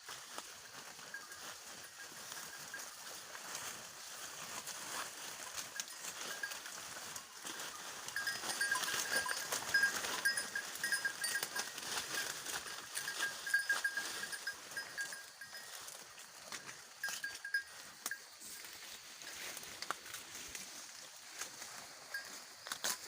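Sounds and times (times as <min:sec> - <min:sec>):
leaves rustling and crackling: 0:00.0 - 0:23.0
goat bell clinking: 0:00.3 - 0:19.5, 0:21.4 - 0:23.0.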